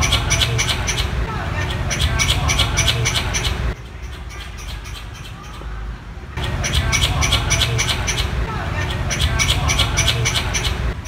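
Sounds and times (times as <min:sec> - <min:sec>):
squirrel chirping rapidly: 0:00.0 - 0:05.7, 0:06.4 - 0:11.0.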